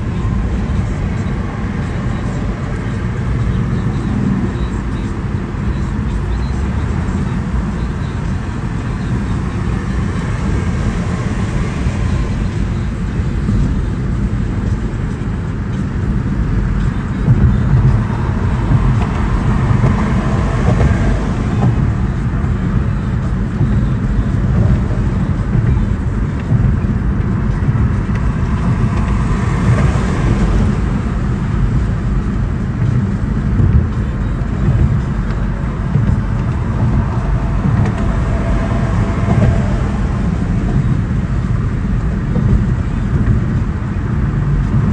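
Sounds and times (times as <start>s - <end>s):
car road noise rumble: 0.0s - 44.9s.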